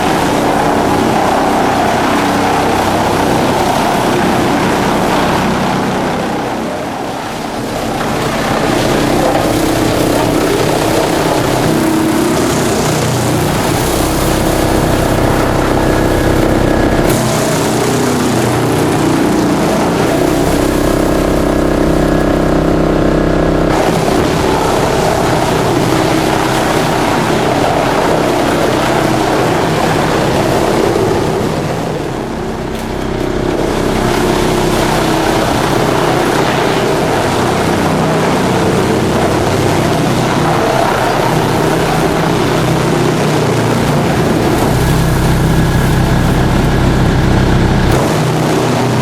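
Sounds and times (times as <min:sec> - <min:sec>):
dense rushing noise: 0:00.0 - 0:49.0
wood chipper drone: 0:00.0 - 0:49.0.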